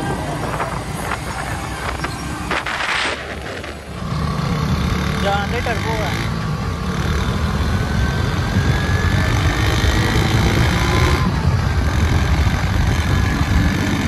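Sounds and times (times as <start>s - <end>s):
road and wind noise: 0.0s - 14.0s
vehicle engine drone: 0.0s - 14.0s.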